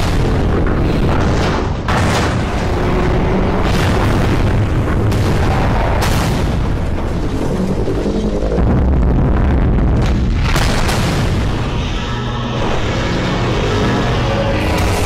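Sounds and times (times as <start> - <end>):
continuous deep rumble: 0.0 - 15.0
heavy booms and crashes: 0.0 - 15.0.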